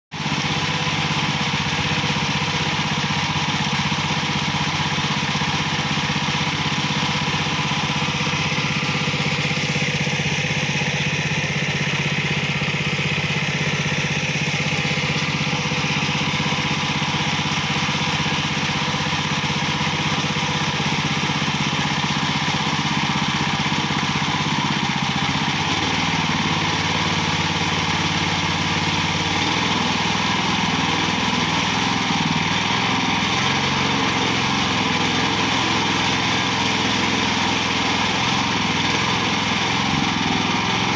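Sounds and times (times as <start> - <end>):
water pump engine running: 0.1 - 40.9.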